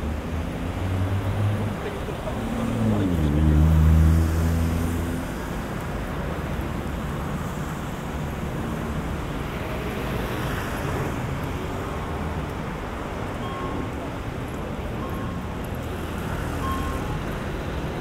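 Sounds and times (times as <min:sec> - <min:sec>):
city traffic noise: 0:00.0 - 0:18.0
vehicle engine nearby: 0:00.0 - 0:18.0.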